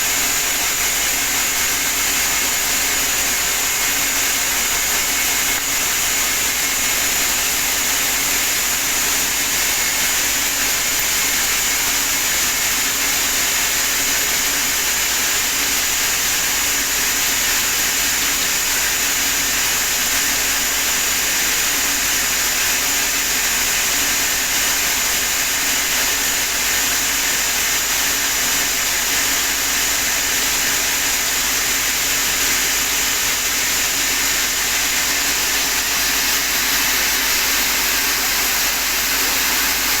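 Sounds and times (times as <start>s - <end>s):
sawmill saw running: 0.0s - 40.0s.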